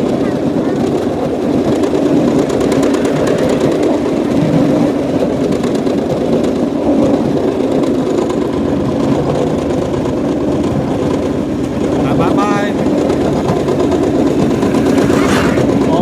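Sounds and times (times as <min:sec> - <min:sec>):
bamboo train running on track: 0:00.0 - 0:16.0
small engine running: 0:00.0 - 0:16.0.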